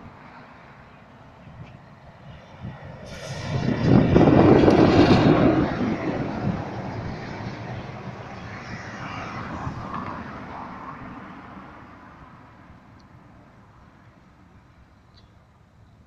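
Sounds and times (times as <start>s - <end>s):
vehicle passing on road: 0.0s - 15.8s.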